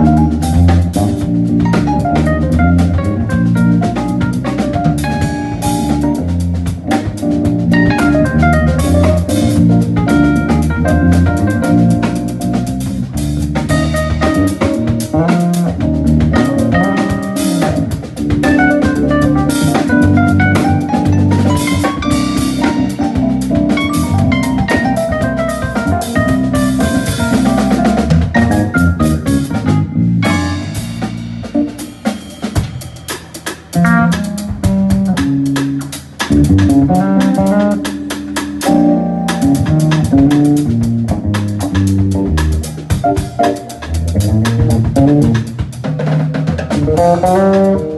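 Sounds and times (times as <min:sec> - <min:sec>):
drum kit: 0:00.0 - 0:47.9
electric bass line: 0:00.0 - 0:47.9
electric keyboard notes: 0:00.0 - 0:47.9.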